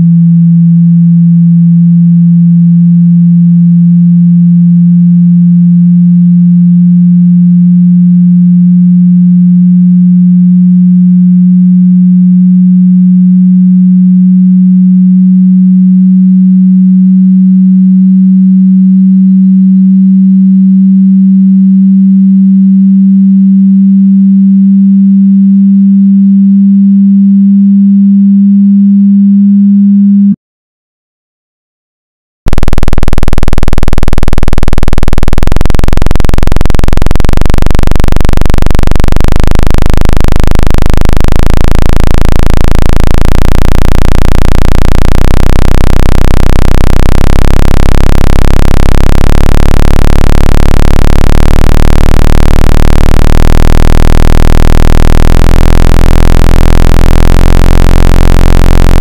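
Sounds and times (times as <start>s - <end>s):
low sine test tone: 0.0s - 30.4s, 32.5s - 59.0s.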